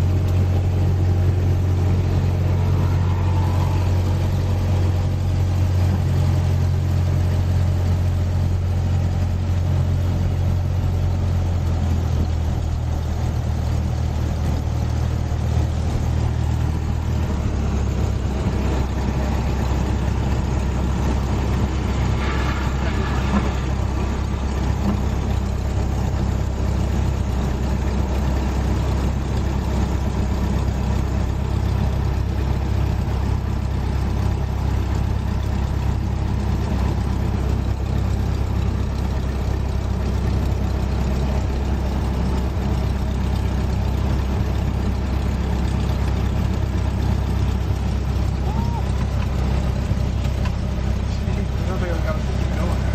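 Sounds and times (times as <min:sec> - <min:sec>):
propeller airplane engine drone: 0:00.0 - 0:52.9.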